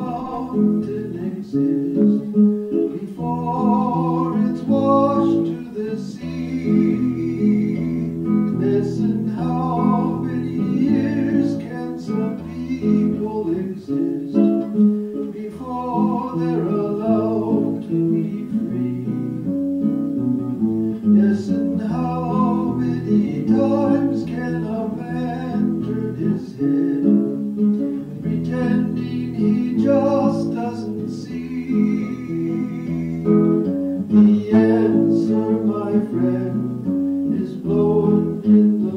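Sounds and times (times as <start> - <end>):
person singing: 0.0 - 20.0, 20.9 - 38.9
strummed acoustic guitar: 0.0 - 38.9.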